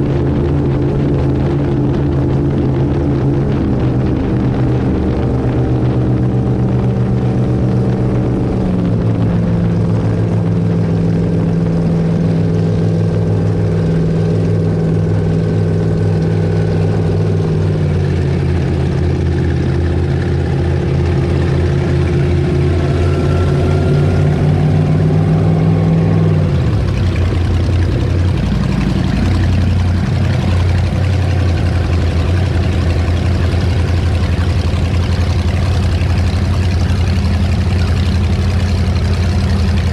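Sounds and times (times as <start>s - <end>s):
powerboat engines running: 0.0s - 39.9s.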